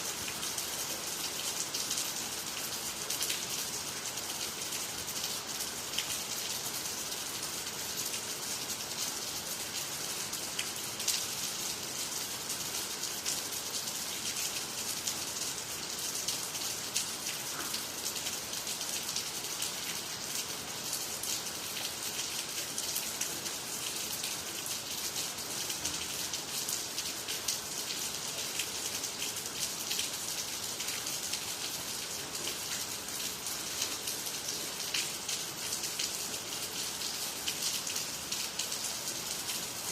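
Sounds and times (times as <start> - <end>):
raindrops hitting ground and trees: 0.0 - 39.9
steady rain falling: 0.0 - 39.9.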